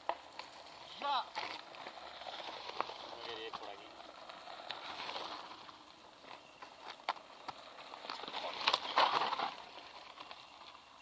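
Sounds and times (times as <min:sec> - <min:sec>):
bike clicks and rattles: 0:00.0 - 0:11.0
bike tyres crunching on gravel: 0:00.0 - 0:11.0.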